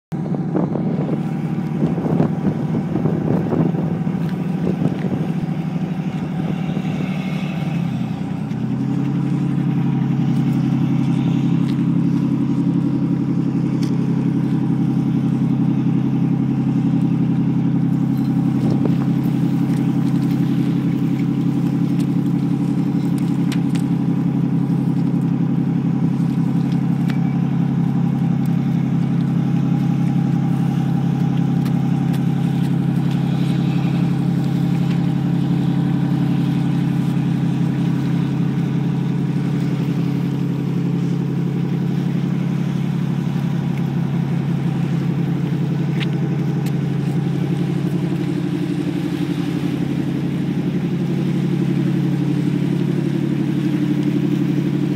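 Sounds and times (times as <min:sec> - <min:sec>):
boat engine running: 0:00.1 - 0:54.9.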